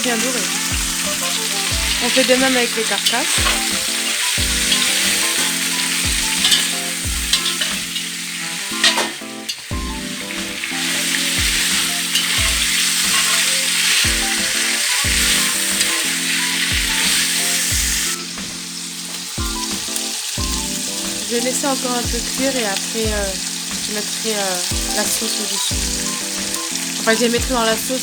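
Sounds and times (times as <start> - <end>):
background music with a beat: 0.0 - 28.0
meat sizzling in a pan: 0.0 - 28.0.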